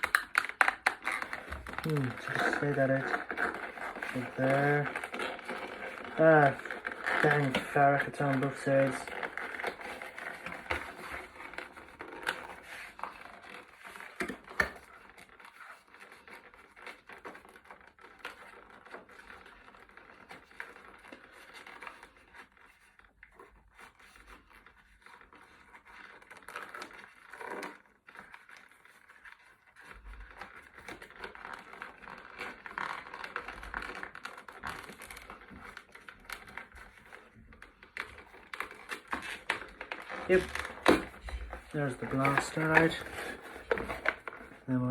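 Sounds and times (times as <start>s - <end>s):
toy packaging crinkling and scraping: 0.0s - 44.9s.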